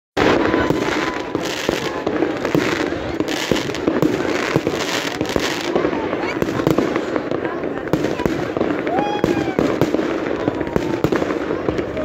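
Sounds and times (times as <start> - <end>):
fireworks bangs and crackles: 0.2 - 12.0.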